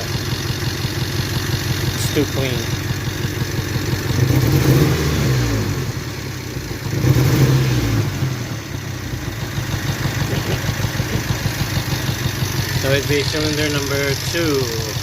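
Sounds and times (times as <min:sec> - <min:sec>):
rough engine revving: 0:00.0 - 0:15.0.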